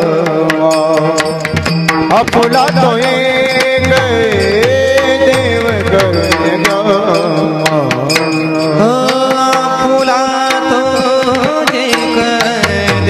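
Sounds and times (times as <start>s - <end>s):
held melodic tones: 0.0s - 13.0s
percussion strokes: 0.0s - 13.0s.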